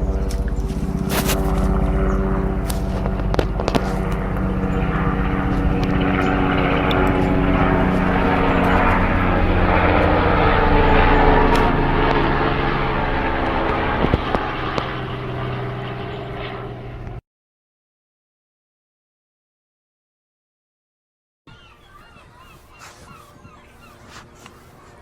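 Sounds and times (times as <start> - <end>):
helicopter drone: 0.0 - 17.2, 21.5 - 25.0.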